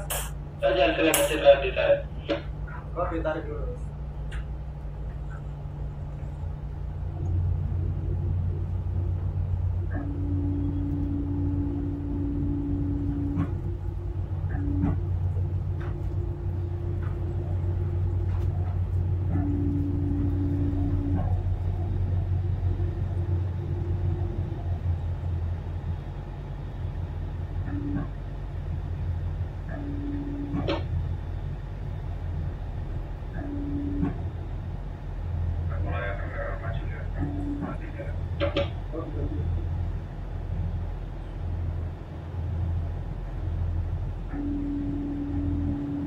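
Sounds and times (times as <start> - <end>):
diesel engines rumbling: 0.0 - 46.0
higher steady hum: 0.0 - 46.0.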